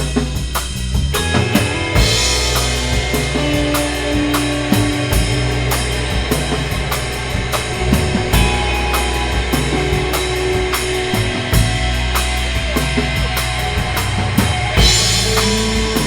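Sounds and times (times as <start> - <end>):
drum kit beat: 0.0 - 16.0
rock band playing live: 0.0 - 16.0.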